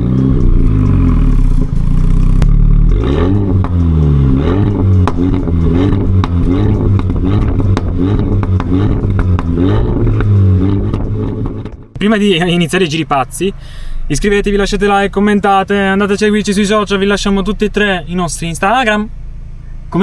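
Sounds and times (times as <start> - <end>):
car engine revving: 0.0 - 20.0
exhaust cracks: 0.0 - 20.0.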